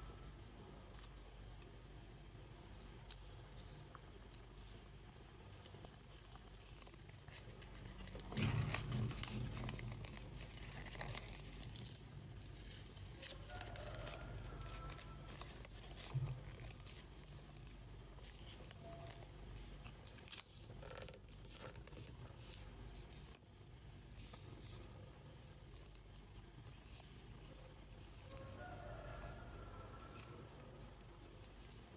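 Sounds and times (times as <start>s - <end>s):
paper crinkling and rustling: 5.5s - 23.4s, 24.1s - 31.9s.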